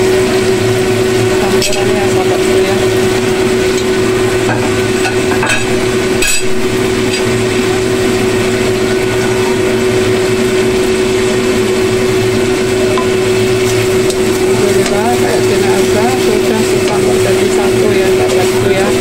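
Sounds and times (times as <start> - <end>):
constant hum: 0.0 - 19.0
food sizzling in a wok: 0.0 - 19.0.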